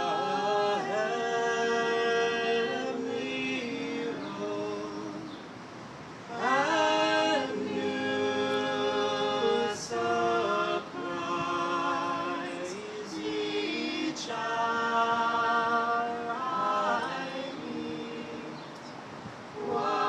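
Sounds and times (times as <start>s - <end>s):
people singing a cappella: 0.0s - 5.6s, 6.3s - 20.0s.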